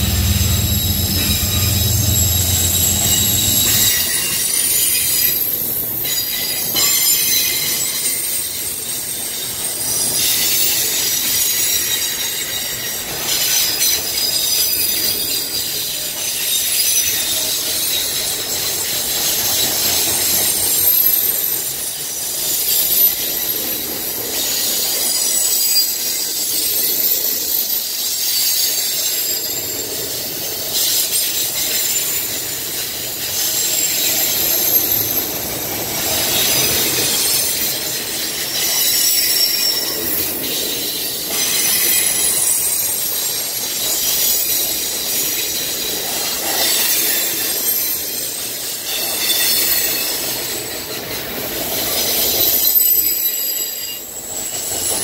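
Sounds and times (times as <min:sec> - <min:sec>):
steel wheels on rail: 0:00.0 - 0:55.0
train wheels squealing: 0:00.0 - 0:55.0.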